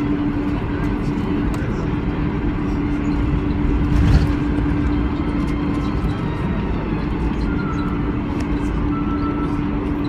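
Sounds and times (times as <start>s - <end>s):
airliner rumbling: 0.0s - 10.0s.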